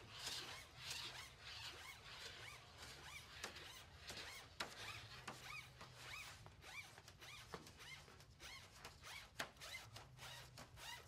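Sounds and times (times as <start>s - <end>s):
shaft squeaking in tube: 0.1s - 11.0s.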